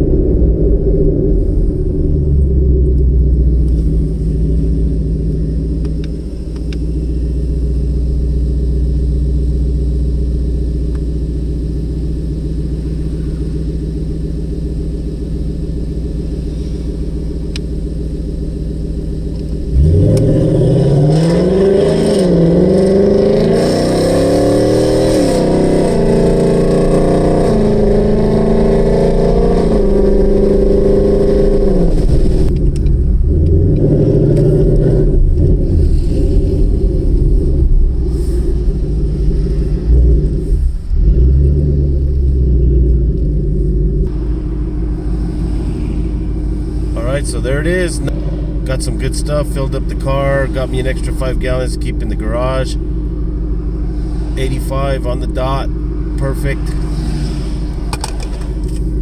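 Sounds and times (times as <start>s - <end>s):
car engine exhaust accelerating: 0.0s - 59.0s
low exhaust drone: 0.0s - 59.0s.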